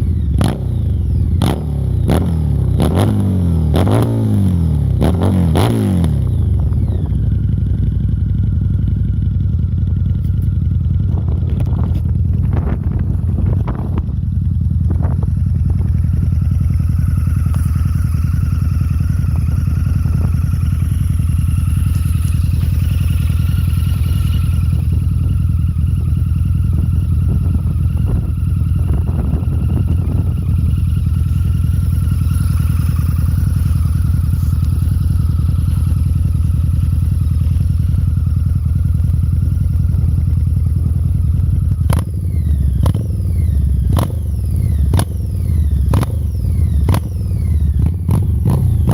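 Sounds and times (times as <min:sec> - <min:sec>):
motorcycle engine running and revving: 0:00.0 - 0:48.9.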